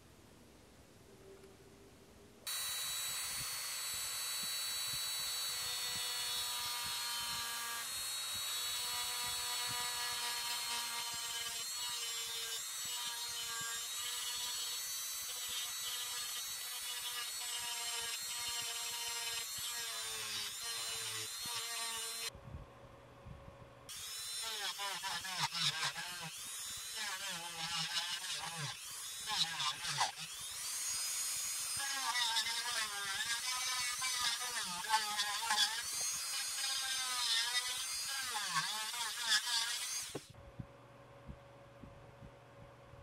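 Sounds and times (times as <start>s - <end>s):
rotary tool whining cutting wood: 2.5s - 22.3s, 23.9s - 40.4s.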